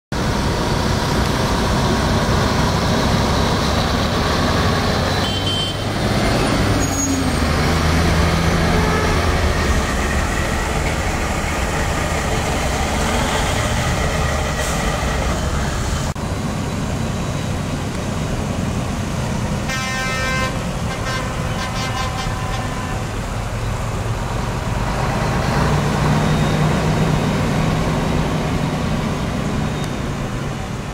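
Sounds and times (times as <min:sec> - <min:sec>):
truck diesel engine: 0:00.1 - 0:30.9
tyres hissing on wet road: 0:00.2 - 0:30.9.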